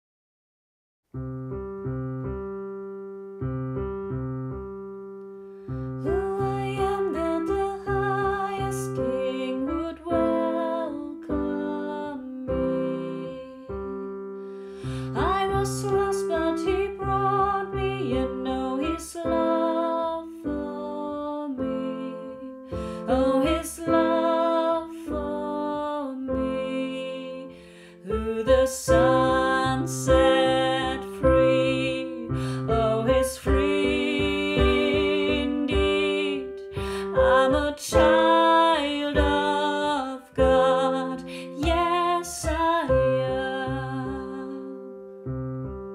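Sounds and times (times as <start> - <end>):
piano playing chords: 1.1 - 45.9
woman singing: 6.0 - 14.2, 14.9 - 45.0.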